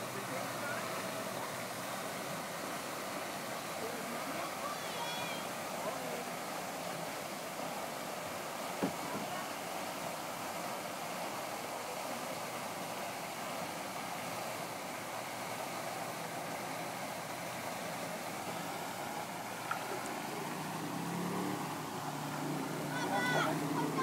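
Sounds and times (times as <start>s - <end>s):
fountain water hissing: 0.0s - 24.0s.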